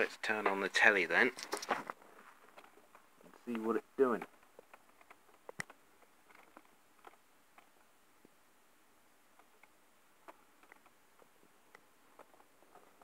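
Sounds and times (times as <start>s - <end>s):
faint clicks and ticks: 0.0s - 13.0s.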